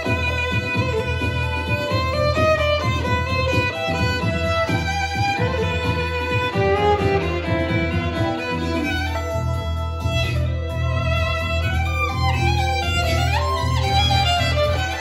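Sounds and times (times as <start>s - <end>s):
instrumental melody: 0.0s - 15.0s
pulsing low bass notes: 0.0s - 15.0s.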